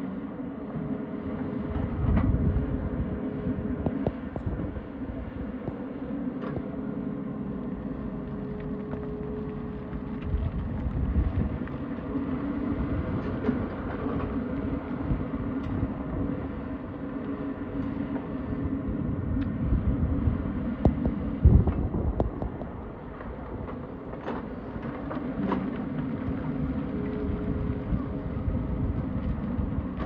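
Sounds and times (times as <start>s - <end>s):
excavator diesel engine running: 0.1s - 30.0s.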